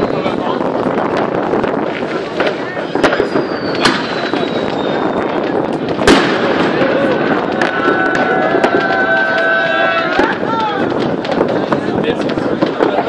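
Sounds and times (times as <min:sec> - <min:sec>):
distant fireworks crackling: 0:00.0 - 0:13.0
firework bangs: 0:00.0 - 0:13.0.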